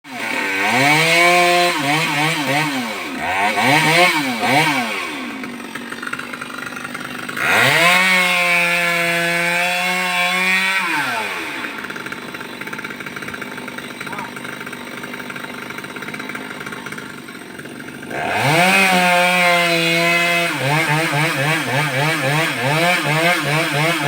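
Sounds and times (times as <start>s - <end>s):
chainsaw engine revving: 0.0s - 24.0s.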